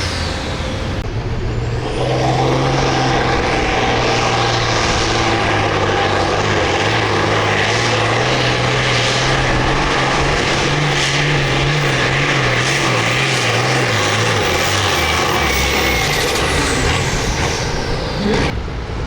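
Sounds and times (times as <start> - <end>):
tractor engine under load: 0.0 - 18.5.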